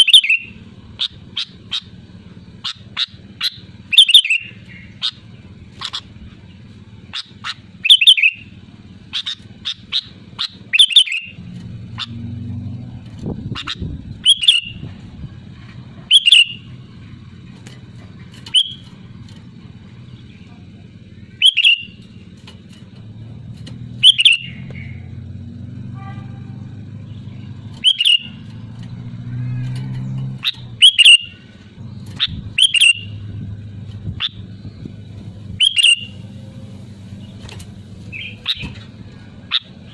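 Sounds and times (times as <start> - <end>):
bird chirping: 0.0 - 15.0, 16.0 - 22.8, 23.6 - 25.2, 26.6 - 28.9, 29.6 - 39.9.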